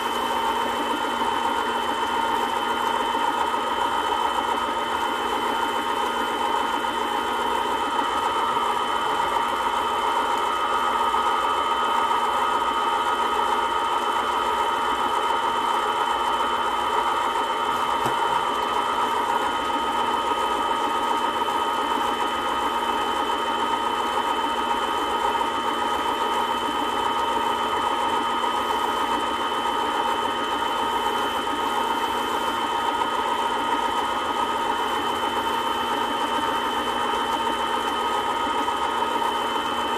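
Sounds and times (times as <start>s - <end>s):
small lathe motor whine: 0.0s - 39.9s.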